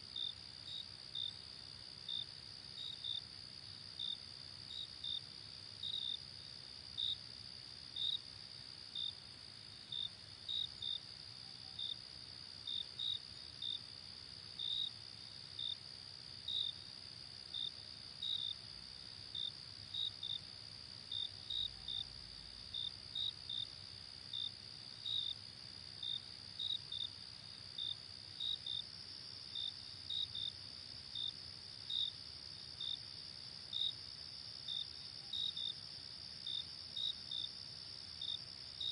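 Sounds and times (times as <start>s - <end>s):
single cricket chirping: 0.0s - 38.9s.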